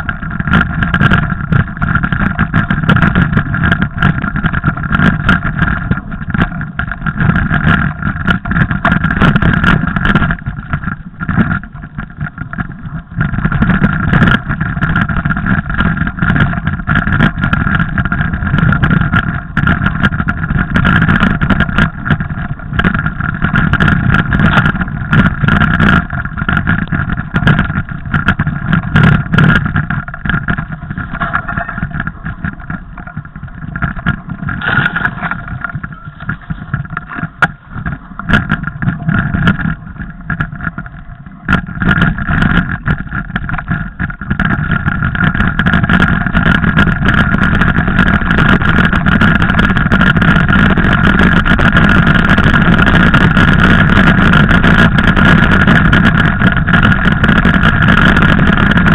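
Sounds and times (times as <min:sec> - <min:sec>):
bike clicks and rattles: 0:00.0 - 0:58.9
bike rumble and hum: 0:00.0 - 0:58.9.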